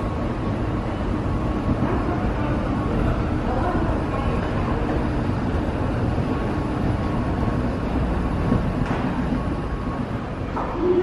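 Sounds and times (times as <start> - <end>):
subway station rumble and hum: 0.0 - 11.0.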